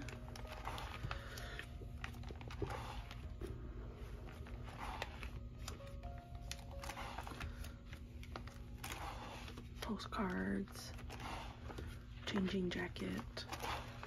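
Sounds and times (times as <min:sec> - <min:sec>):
plastic binder pages rustling: 0:00.0 - 0:14.0.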